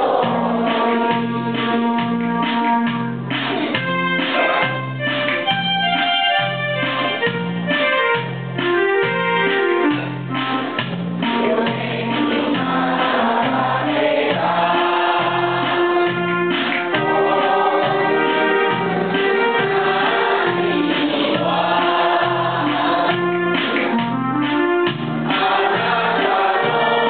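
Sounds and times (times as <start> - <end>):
electronic keyboard music: 0.0 - 27.0.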